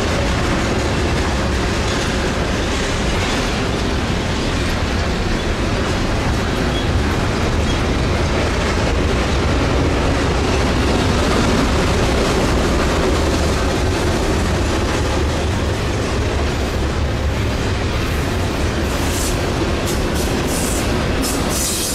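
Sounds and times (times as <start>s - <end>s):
freight train rumbling on rails: 0.0s - 21.9s.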